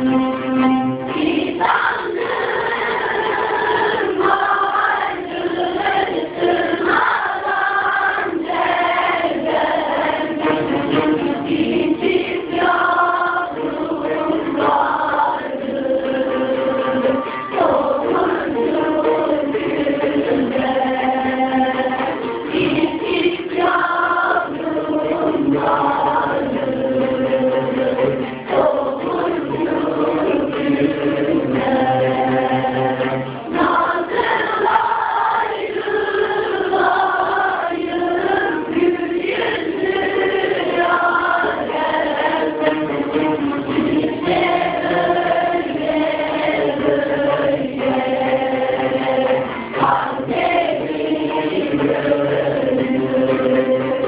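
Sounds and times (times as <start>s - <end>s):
group singing with instruments: 0.0s - 54.0s.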